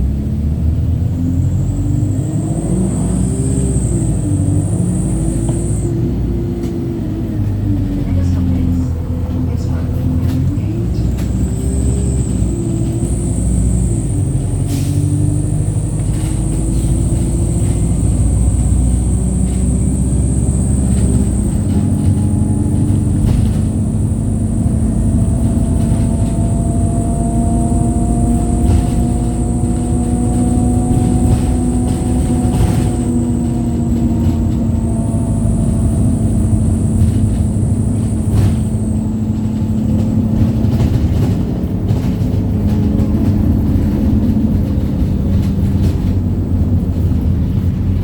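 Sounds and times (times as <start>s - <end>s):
bus diesel engine: 0.0s - 48.0s
knocks and rattles from bus body: 0.0s - 48.0s.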